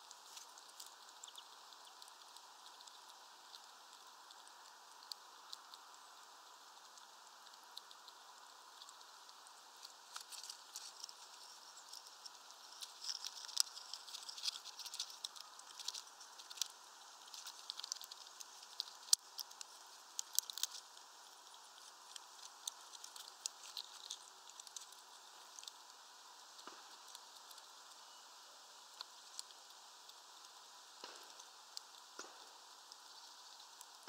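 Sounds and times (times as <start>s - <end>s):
squirrel feeding clicks and crackles: 0.0s - 34.0s.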